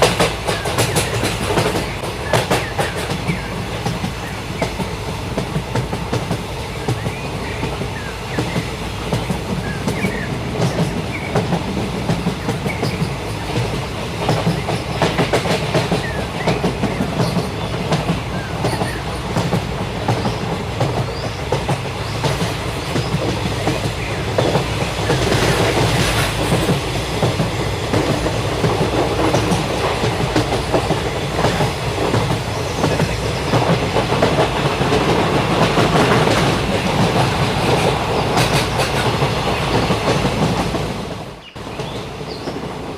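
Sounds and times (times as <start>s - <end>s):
train wheels rattling on rails: 0.0s - 42.9s.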